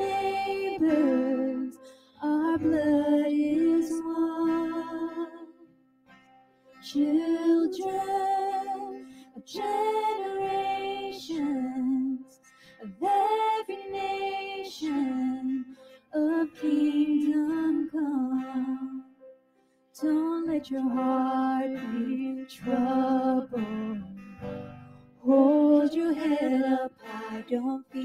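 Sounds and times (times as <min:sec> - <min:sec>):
woman singing worship song: 0:00.0 - 0:05.6, 0:06.8 - 0:19.1, 0:20.0 - 0:24.2, 0:25.2 - 0:28.0
acoustic guitar: 0:00.0 - 0:28.0
piano: 0:00.0 - 0:28.0.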